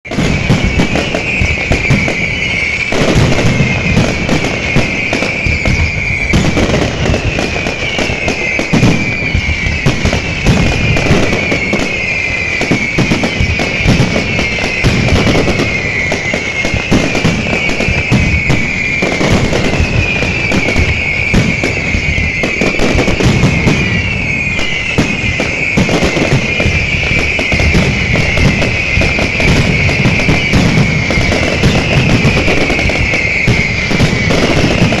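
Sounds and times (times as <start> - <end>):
fireworks bangs and crackles: 0.0 - 35.0
high falling whistle: 0.1 - 35.0.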